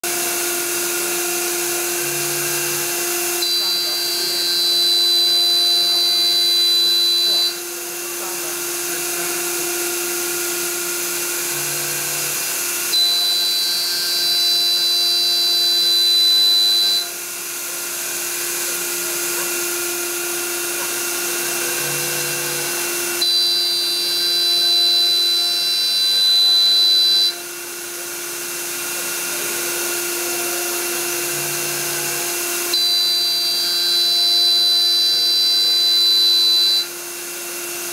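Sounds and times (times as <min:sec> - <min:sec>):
cnc router cutting wood: 0:00.0 - 0:37.9
dust extraction running: 0:00.0 - 0:37.9.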